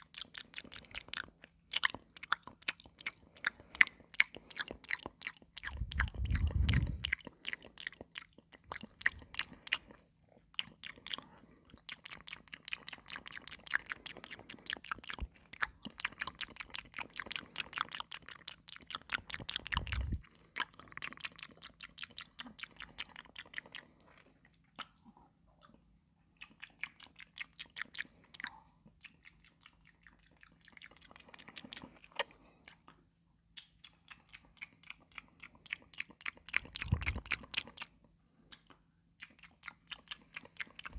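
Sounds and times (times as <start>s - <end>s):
crunchy cucumber chewing: 0.0s - 40.9s.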